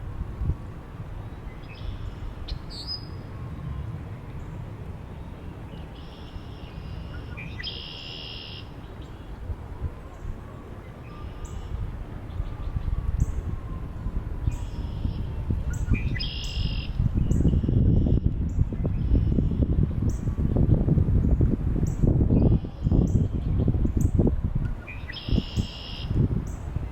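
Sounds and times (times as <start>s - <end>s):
wind rumble: 0.0s - 26.9s.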